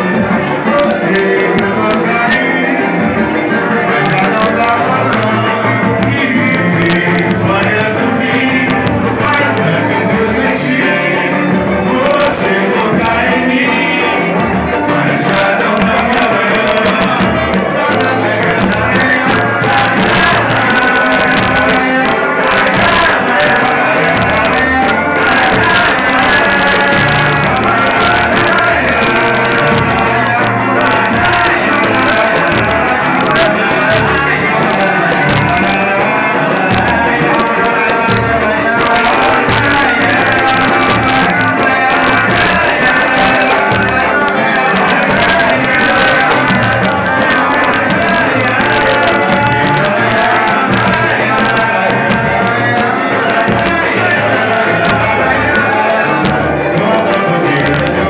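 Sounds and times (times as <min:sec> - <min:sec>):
band music with drums: 0:00.0 - 0:58.0.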